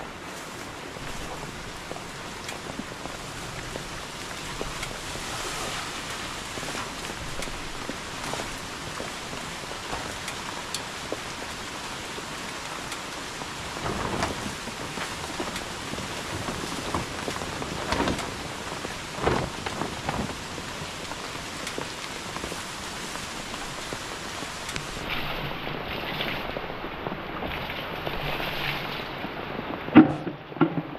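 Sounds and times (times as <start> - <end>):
plastic tarp rustling: 0.0 - 12.3, 13.4 - 30.9
sharp raindrops striking: 0.0 - 30.9
steady rain falling: 0.0 - 30.9.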